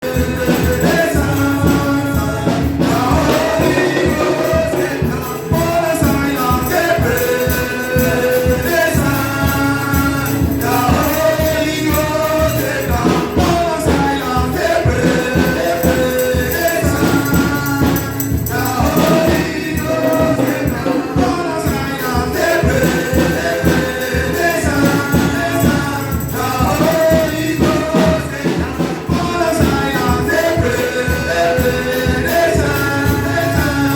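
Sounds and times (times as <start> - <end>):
choir singing over a beat: 0.0 - 33.9
tambourine: 0.0 - 33.9.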